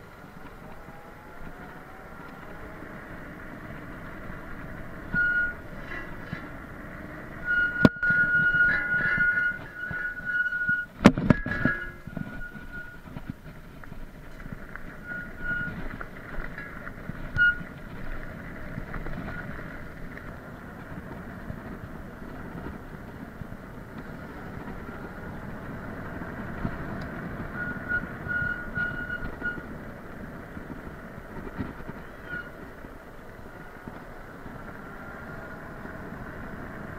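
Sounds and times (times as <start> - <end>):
wind and tyre rumble: 0.0 - 36.9.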